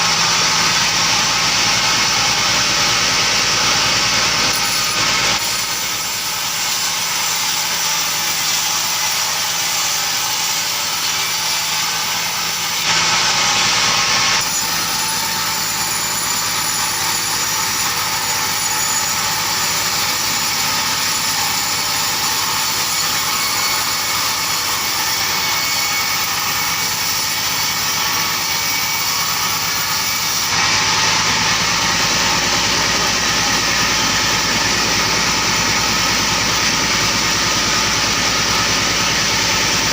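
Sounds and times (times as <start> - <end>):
engine saw cutting timber: 0.0 - 39.9.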